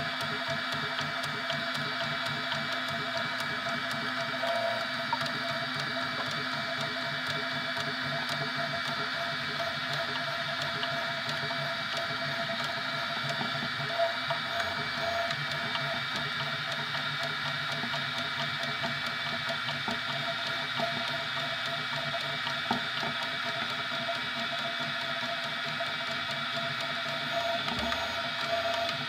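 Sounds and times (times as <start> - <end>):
printer motors whining: 0.0 - 29.0.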